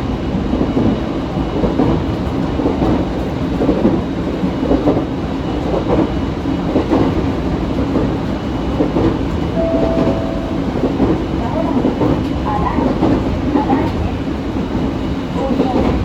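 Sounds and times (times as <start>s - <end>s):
train wheels rumbling on rail: 0.0s - 9.5s, 11.6s - 16.0s.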